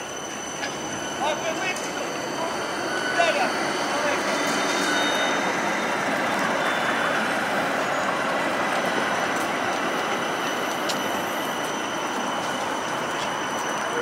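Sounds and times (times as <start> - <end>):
faint high steady tones: 0.0 - 14.0
tram wheels rolling on rails: 0.0 - 14.0.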